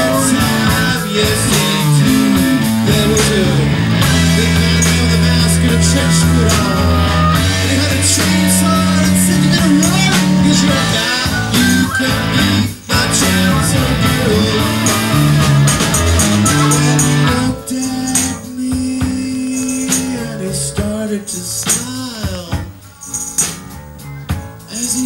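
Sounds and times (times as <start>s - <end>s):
tambourine shaking: 0.0s - 20.4s, 22.9s - 23.8s
guitar bending notes: 0.0s - 24.7s
blues guitar: 0.0s - 25.0s.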